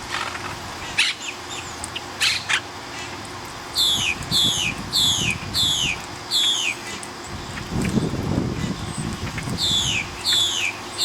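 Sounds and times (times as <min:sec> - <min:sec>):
parakeet calling: 0:00.2 - 0:07.0, 0:08.0 - 0:11.0.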